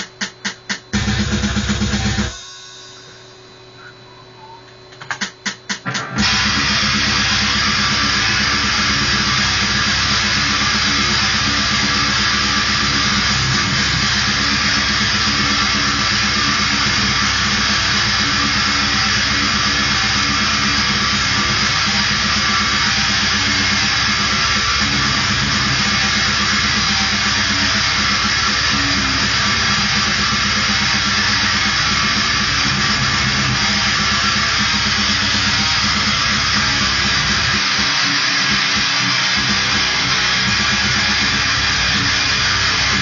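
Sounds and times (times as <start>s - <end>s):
electric guitar metal riffing: 0.9s - 4.0s, 5.9s - 43.0s.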